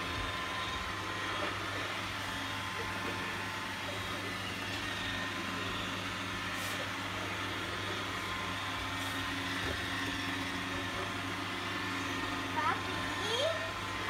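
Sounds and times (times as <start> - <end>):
robot vacuum humming: 0.0 - 14.0.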